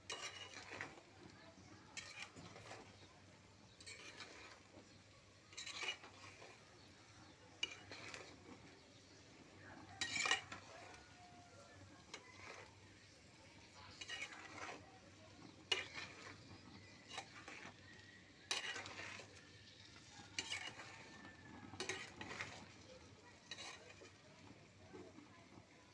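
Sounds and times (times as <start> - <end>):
metal spatula scraping pot: 0.0 - 25.9.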